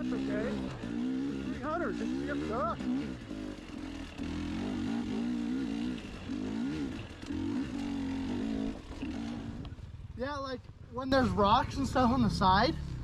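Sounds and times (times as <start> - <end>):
dirt bike engine revving: 0.0 - 10.2, 11.2 - 13.0.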